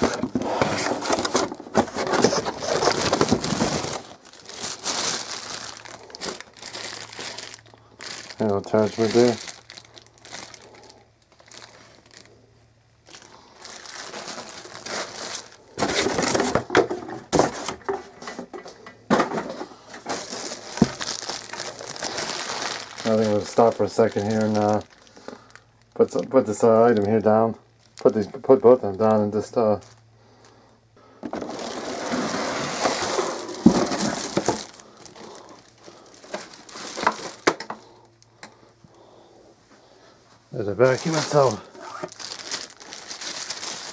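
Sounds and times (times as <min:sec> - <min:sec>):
packaging rustling and crinkling: 0:00.0 - 0:12.4, 0:13.0 - 0:30.6, 0:31.2 - 0:38.2, 0:40.6 - 0:43.9.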